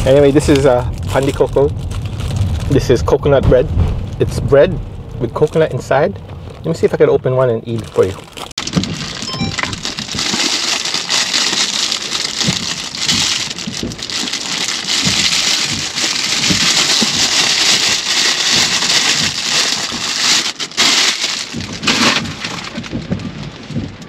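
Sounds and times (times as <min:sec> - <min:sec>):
plastic bag crinkling: 0:00.0 - 0:03.2, 0:07.6 - 0:24.0.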